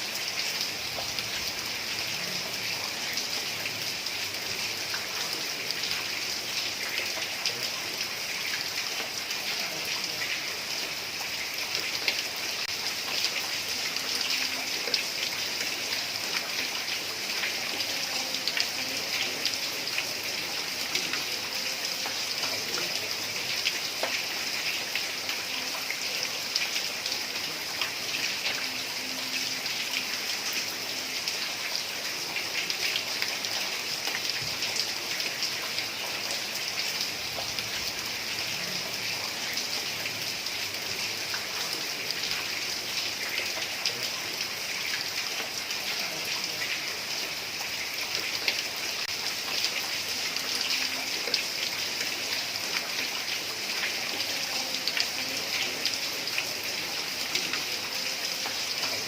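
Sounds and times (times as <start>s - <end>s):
heavy rain on a tiled roof: 0.0s - 59.0s.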